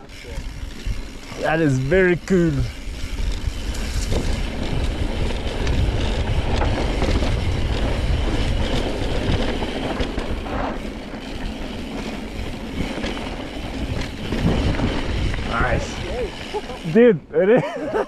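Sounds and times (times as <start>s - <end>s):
wind rumbling on microphone: 0.0s - 16.9s
bike rattling over bumps: 0.0s - 18.0s
tyres rolling over dirt and rock: 0.4s - 16.8s.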